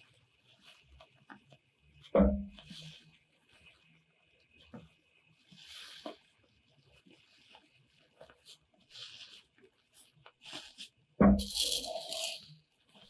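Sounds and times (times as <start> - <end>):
soft scrapes and rustles: 0.0 - 13.0.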